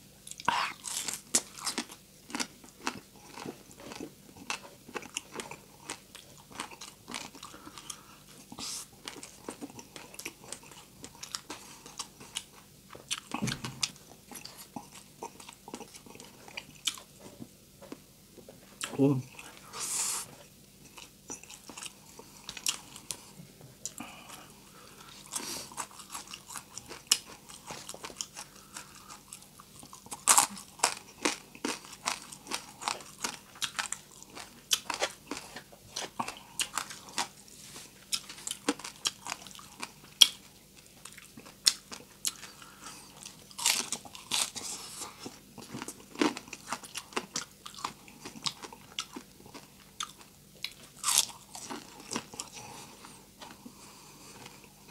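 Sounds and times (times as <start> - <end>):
person chewing crispy pork: 0.2 - 18.0, 18.8 - 54.9.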